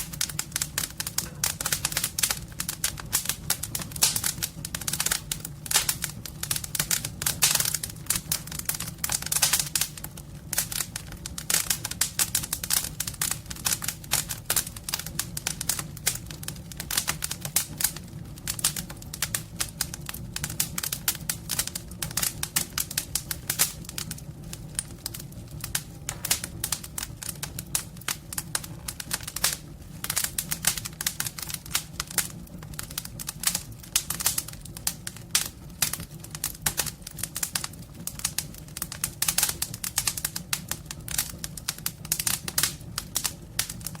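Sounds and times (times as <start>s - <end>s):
steady low hum: 0.0s - 44.0s
wood fire crackling and popping: 0.0s - 44.0s.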